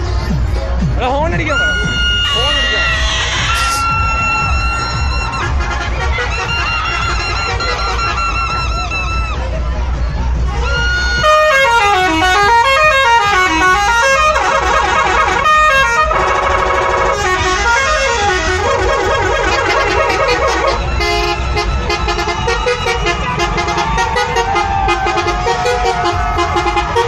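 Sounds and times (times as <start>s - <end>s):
diesel engines rumbling: 0.0s - 27.0s
multi-tone bus horns: 1.4s - 9.6s, 10.5s - 27.0s.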